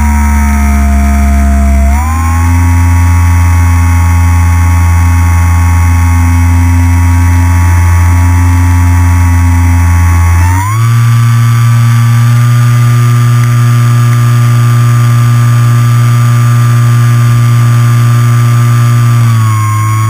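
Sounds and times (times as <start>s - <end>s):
electric motor spinning propeller: 0.0s - 20.0s.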